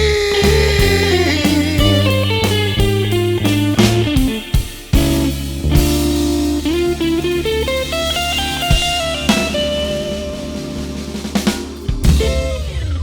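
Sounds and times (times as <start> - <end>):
bass: 0.0 - 13.0
drums: 0.0 - 13.0
electric guitar: 0.0 - 13.0.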